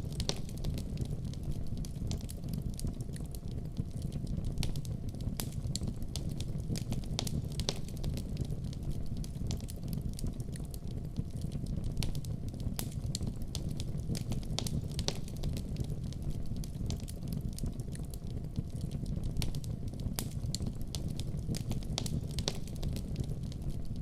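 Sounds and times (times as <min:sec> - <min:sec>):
burning logs crackling and popping: 0:00.0 - 0:24.0
wood fire rumbling: 0:00.0 - 0:24.0.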